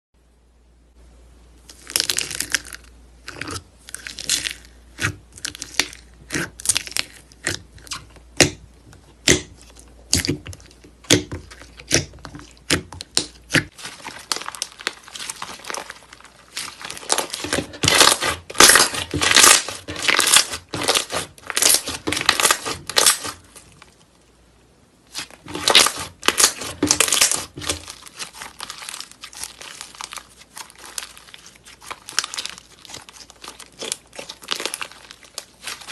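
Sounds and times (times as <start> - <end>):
slime popping and crackling: 1.7 - 24.0, 25.1 - 35.9.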